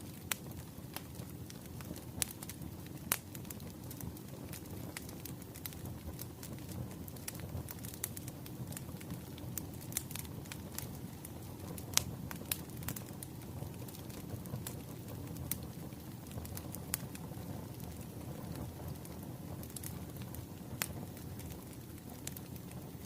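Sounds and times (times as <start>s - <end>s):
wood fire pops and snaps: 0.1s - 23.0s.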